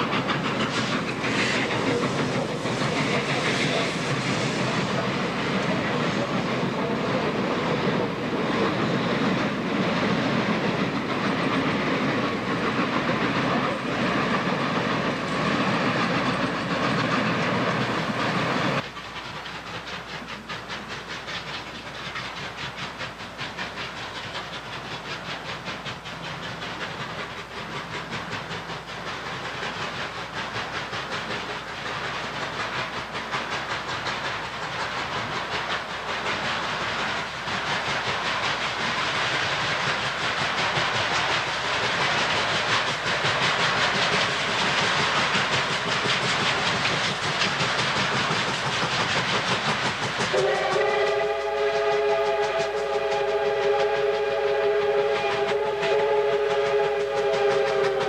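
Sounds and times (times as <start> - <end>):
passenger cars rolling on rails: 0.0 - 58.0
steam hiss: 0.0 - 58.0
steam locomotive exhaust beats: 0.0 - 58.0.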